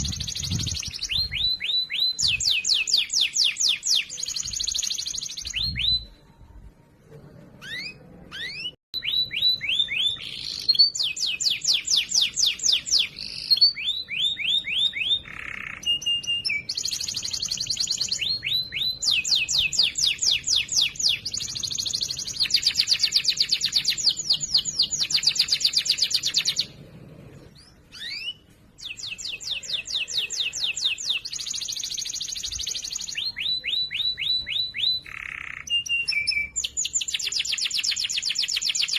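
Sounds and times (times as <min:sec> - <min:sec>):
canary singing: 0:00.0 - 0:06.3, 0:07.6 - 0:38.9.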